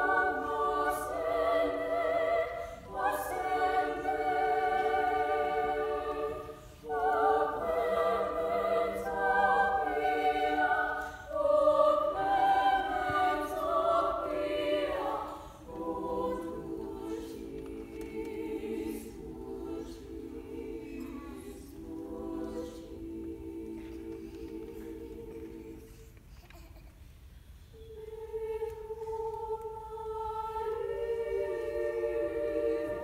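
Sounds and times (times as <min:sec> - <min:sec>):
women's choir singing: 0:00.0 - 0:26.2, 0:27.7 - 0:33.0.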